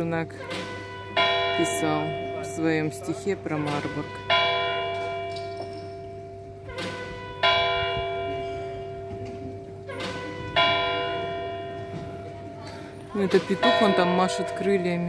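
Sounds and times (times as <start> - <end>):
clock bell striking: 0.0 - 12.4, 13.4 - 15.0.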